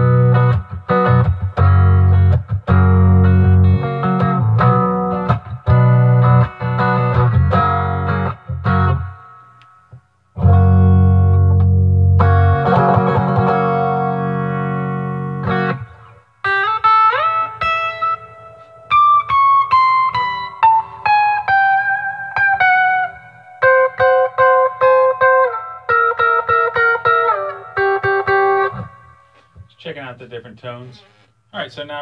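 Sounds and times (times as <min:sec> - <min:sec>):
electric guitar playing: 0:00.0 - 0:29.8.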